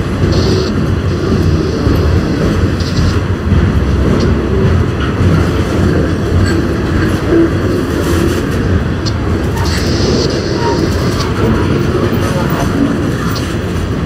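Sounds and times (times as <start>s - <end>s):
rail joint clicks: 0.0s - 14.0s
steel wheels rumbling on rail: 0.0s - 14.0s.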